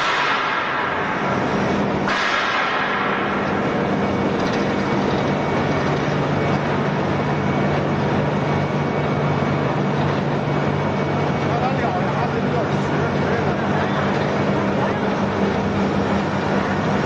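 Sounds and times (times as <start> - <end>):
pellet mill running: 0.0 - 17.0.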